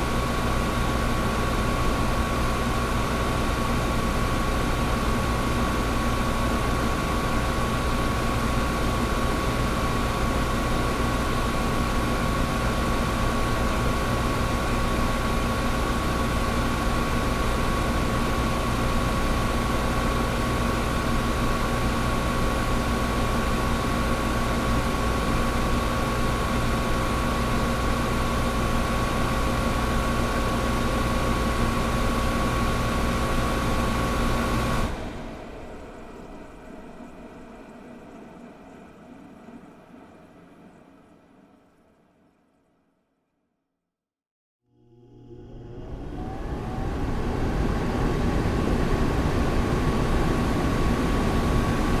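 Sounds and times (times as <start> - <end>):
air conditioner running: 0.0 - 38.4, 44.8 - 52.0.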